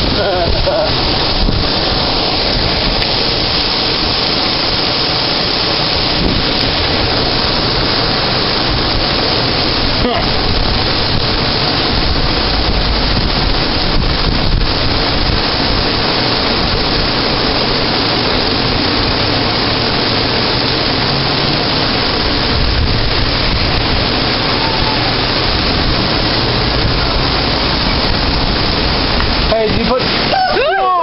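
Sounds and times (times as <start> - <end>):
rain: 0.0 - 31.0
wind buffeting microphone: 0.0 - 31.0.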